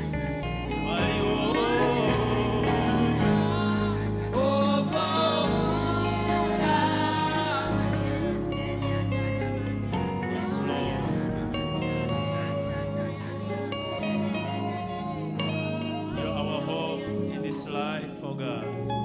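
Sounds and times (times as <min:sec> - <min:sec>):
instrumental accompaniment with bass: 0:00.0 - 0:17.9
gospel singing: 0:00.0 - 0:19.0.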